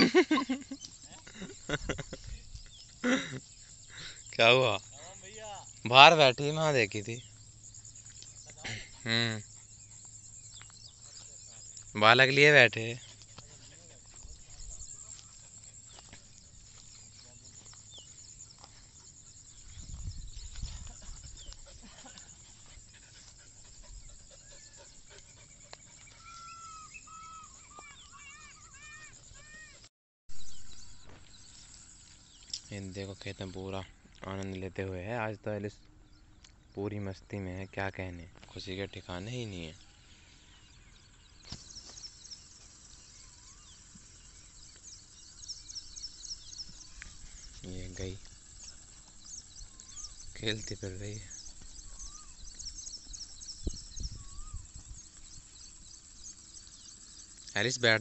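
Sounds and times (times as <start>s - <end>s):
high insect trill: 0.0s - 35.4s, 36.1s - 58.0s
small birds chirping: 0.0s - 58.0s.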